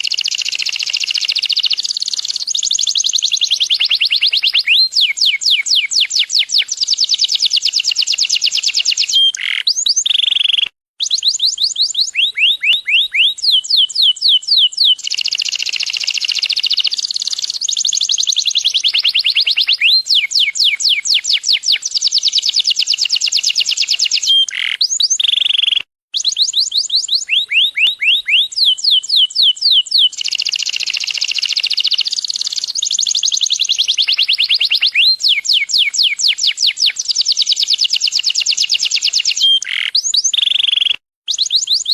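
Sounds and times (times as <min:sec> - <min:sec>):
canary singing rapid trills: 0:00.0 - 0:41.9.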